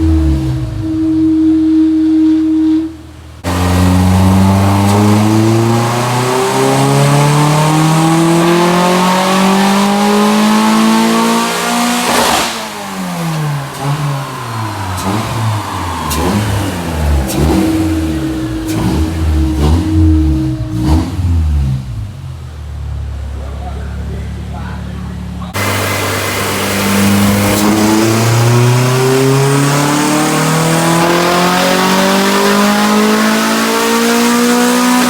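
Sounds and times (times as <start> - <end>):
engine revving: 0.0 - 35.0
exhaust cracks: 0.0 - 35.0.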